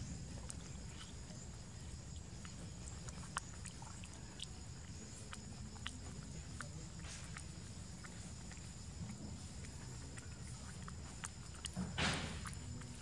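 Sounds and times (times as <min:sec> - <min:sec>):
monkey chewing: 0:00.0 - 0:13.0.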